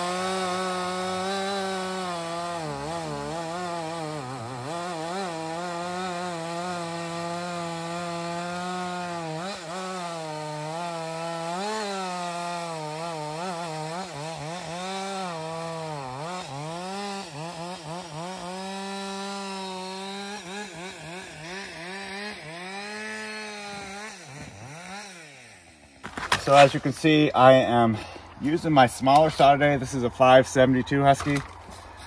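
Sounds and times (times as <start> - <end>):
chainsaw cutting wood: 0.0 - 29.5, 30.8 - 32.0.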